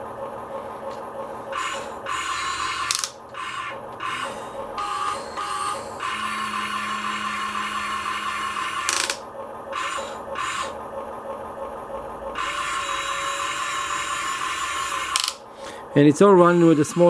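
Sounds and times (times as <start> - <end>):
small electric motors whirring: 1.5 - 10.8, 12.3 - 17.0.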